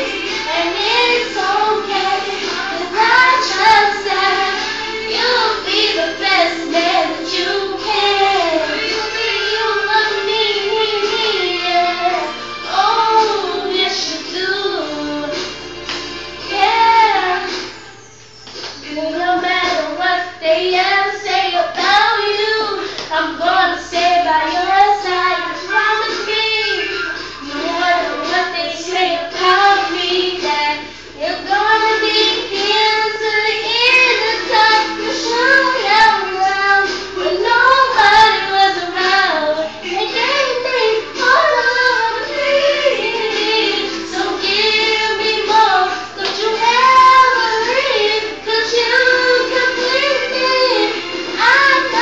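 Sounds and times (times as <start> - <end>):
girl singing: 0.0 - 15.5, 16.4 - 18.1, 18.8 - 52.0.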